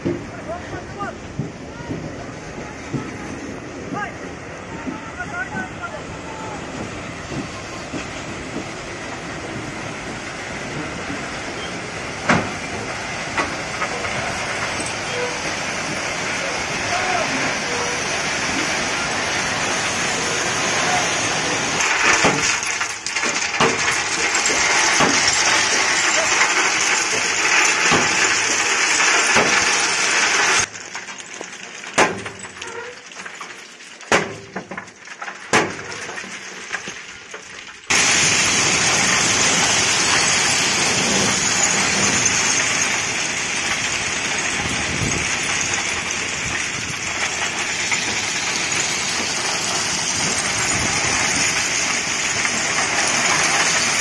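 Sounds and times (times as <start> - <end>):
crushed stone pouring and clattering: 4.8 - 54.0.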